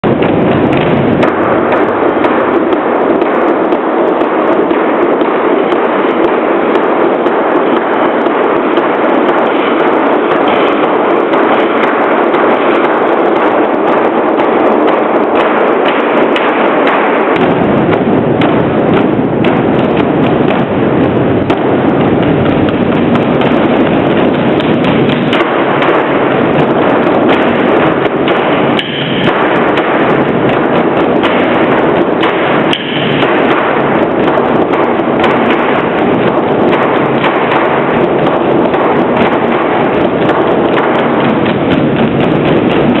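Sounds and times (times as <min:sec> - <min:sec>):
large drums beaten fast: 0:00.0 - 0:43.0.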